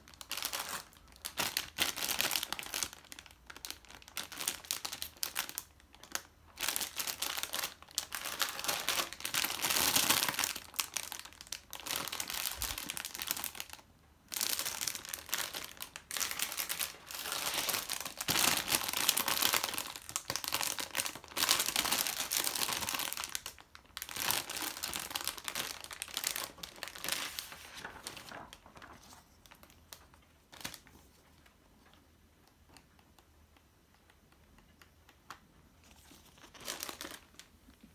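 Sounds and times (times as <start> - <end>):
plastic bags crinkling: 0.0 - 32.0, 35.8 - 37.9.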